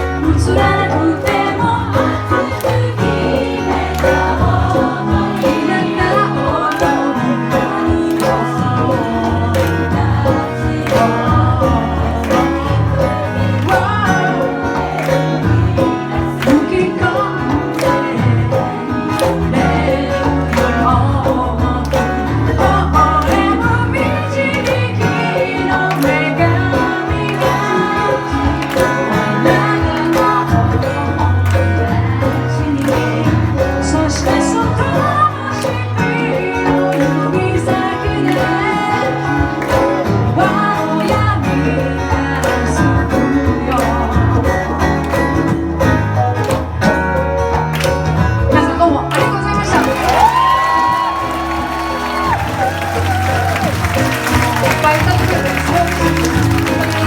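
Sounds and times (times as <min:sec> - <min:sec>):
woman singing: 0:00.0 - 0:46.2, 0:48.4 - 0:57.0
live band playing: 0:00.0 - 0:57.0.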